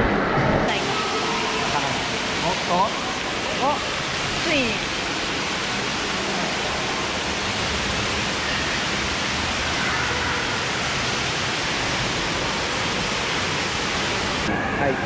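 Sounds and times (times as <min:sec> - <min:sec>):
indoor pool hall rushing noise: 0:00.0 - 0:15.0.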